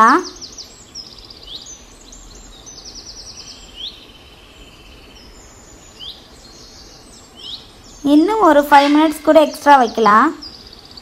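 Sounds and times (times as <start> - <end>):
birds chirping: 0.0 - 11.0
low background hiss: 0.0 - 11.0.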